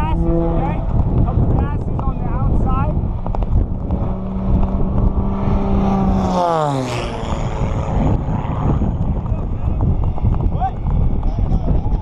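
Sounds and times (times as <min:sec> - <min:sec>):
propeller airplane flying past: 0:00.0 - 0:12.0
wind rumble on microphone: 0:00.0 - 0:12.0.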